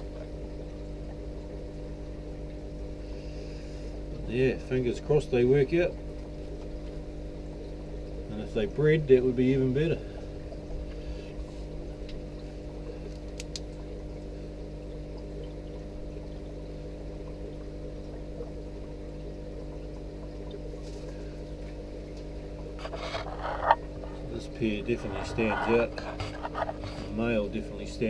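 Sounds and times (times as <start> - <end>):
aquarium filter hum: 0.0 - 28.0
water trickling into tank: 0.0 - 28.0.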